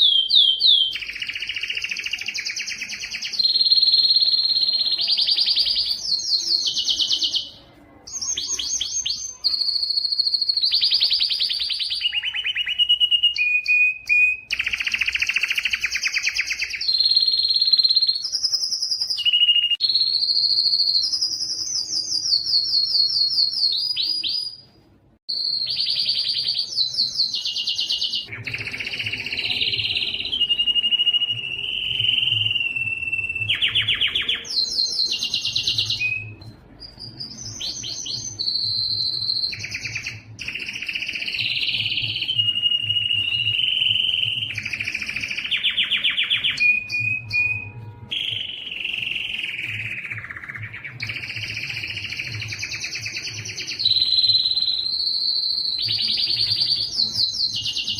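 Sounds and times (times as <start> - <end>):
canary singing: 0.0 - 57.9.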